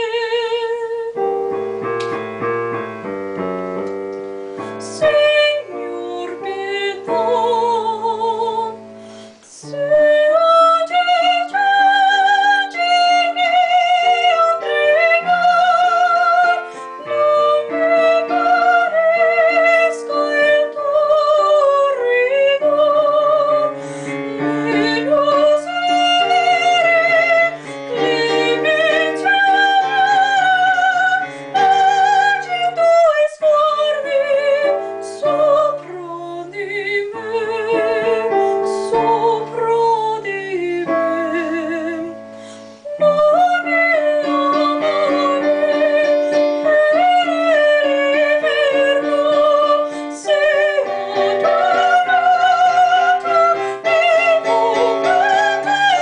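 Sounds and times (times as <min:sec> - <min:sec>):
woman singing operatically: 0:00.0 - 0:01.2, 0:04.8 - 0:42.2, 0:42.9 - 0:56.0
piano accompaniment: 0:00.0 - 0:56.0.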